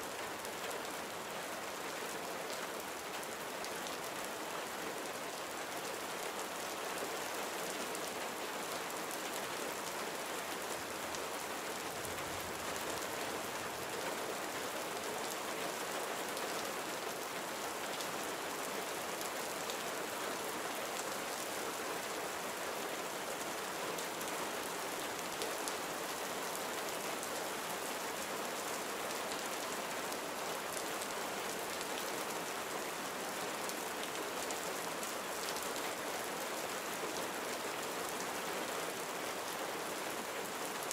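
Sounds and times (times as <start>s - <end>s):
gentle rain falling: 0.0s - 40.9s.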